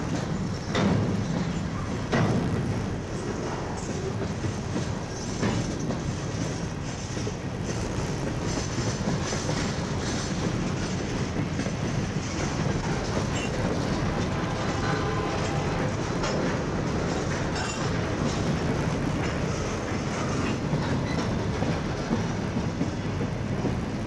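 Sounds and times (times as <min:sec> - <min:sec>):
freight train cars rolling: 0:00.0 - 0:24.0
steel wheels clicking over rail joints: 0:00.0 - 0:24.0.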